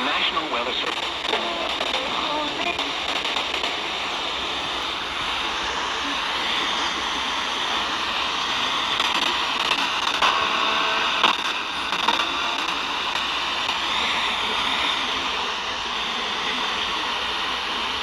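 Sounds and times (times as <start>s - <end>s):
radio static hiss: 0.0s - 18.0s
static crackles: 0.0s - 18.0s.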